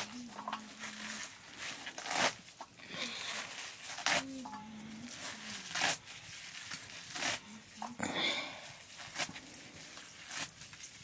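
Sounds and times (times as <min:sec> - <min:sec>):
leafy greens tearing: 0:00.0 - 0:11.0.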